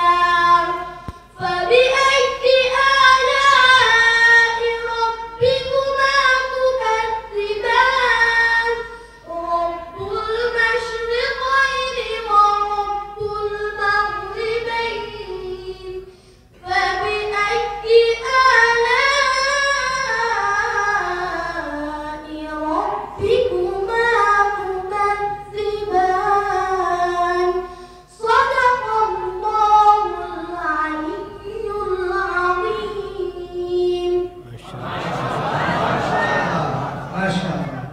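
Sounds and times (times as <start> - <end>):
boy chanting into a microphone: 0.0 - 34.5.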